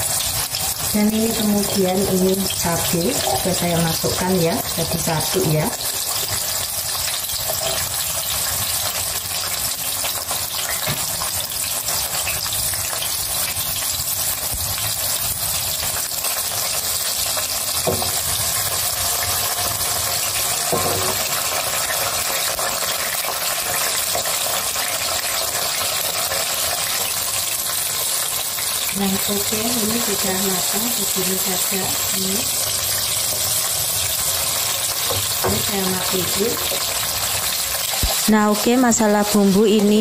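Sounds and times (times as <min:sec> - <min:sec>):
food sizzling in oil: 0:00.0 - 0:40.0.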